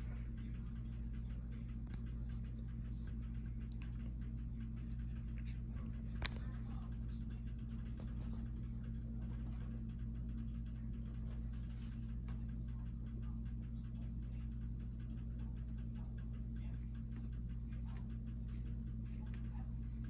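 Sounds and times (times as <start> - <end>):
ceiling fan motor hum: 0.0 - 20.0
rapid light clicking: 0.0 - 20.0.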